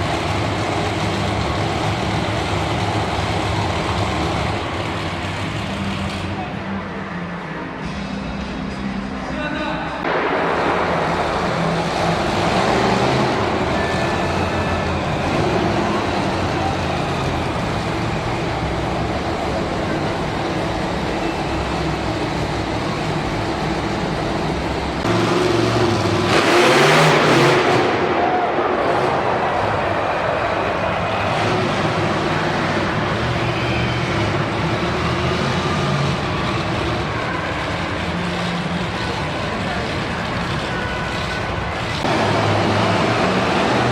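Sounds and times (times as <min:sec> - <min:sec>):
truck engine revving: 0:00.0 - 0:09.2, 0:10.0 - 0:43.9.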